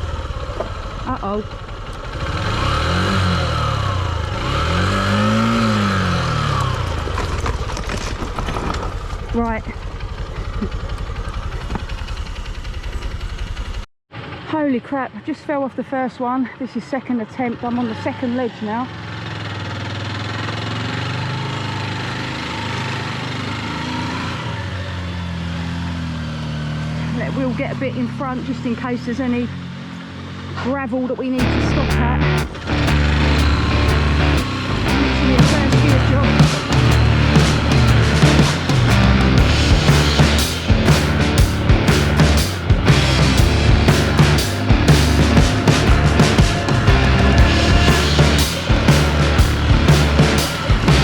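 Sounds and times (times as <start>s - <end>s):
motorcycle engine revving: 0.0s - 14.4s, 17.8s - 51.0s.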